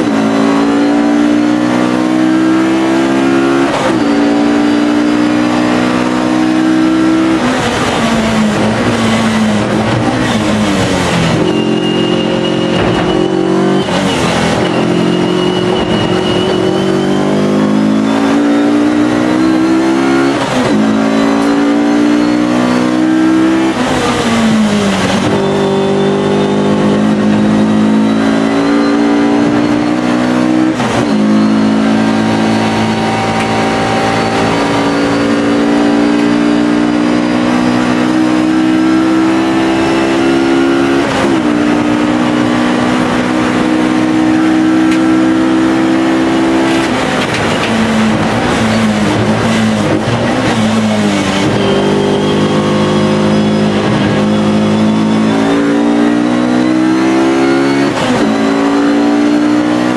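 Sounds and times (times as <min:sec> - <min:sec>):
racing car engine accelerating: 0:00.0 - 0:59.9.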